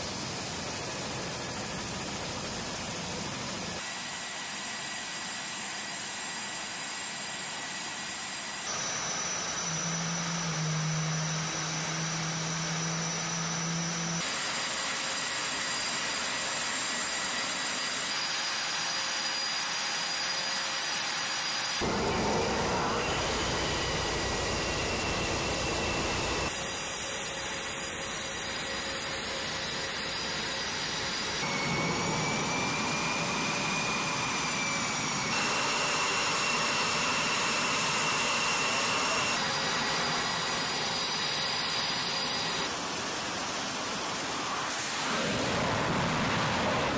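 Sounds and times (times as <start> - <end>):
jet engine turbine whine: 0.0 - 46.9.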